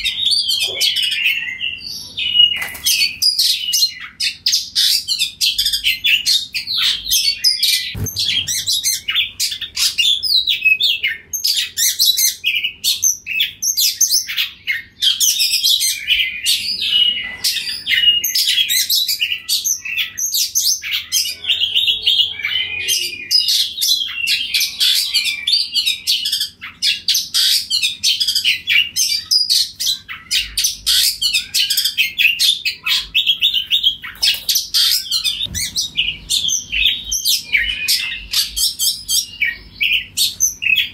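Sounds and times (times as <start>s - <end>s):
songbird whistling and chirping: 0.0s - 40.9s.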